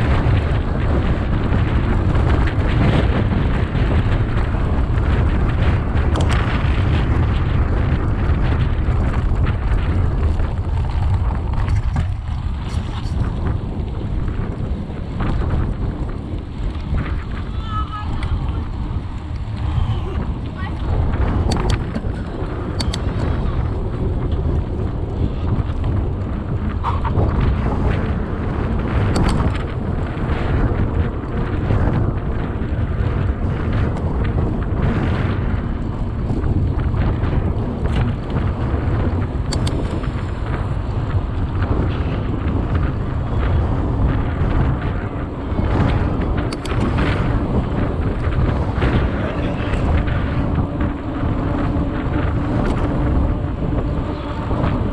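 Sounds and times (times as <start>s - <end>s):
bike clicks and rattles: 0.0s - 54.9s
wind buffeting microphone: 0.0s - 54.9s.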